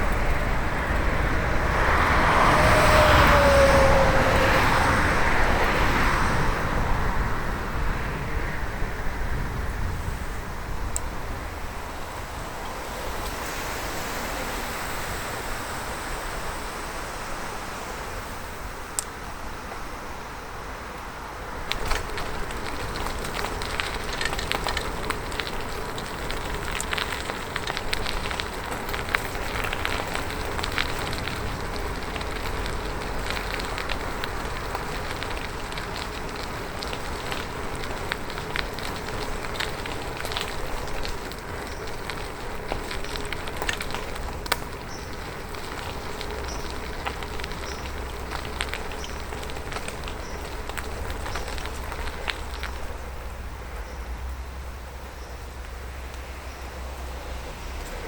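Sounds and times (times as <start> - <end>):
bicycle tyres rolling on road: 0.0 - 58.0.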